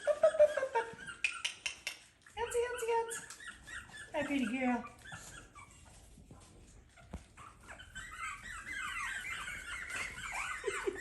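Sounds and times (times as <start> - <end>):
puppies squealing and whining: 0.0 - 11.0.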